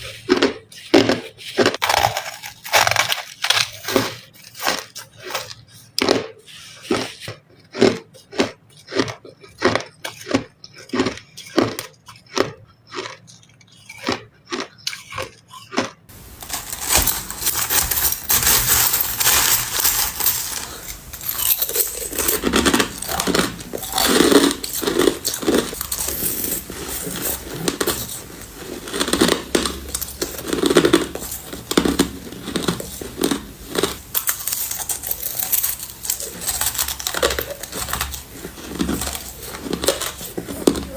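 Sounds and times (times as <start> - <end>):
crunching crushed ice: 0.0 - 40.9.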